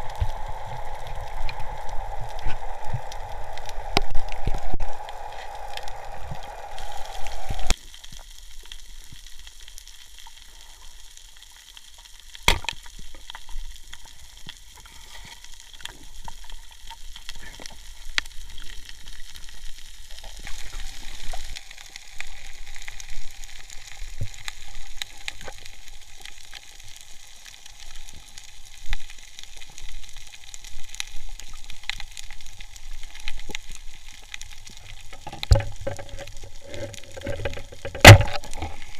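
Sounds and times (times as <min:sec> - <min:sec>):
underwater crackling hiss: 0:00.0 - 0:38.9.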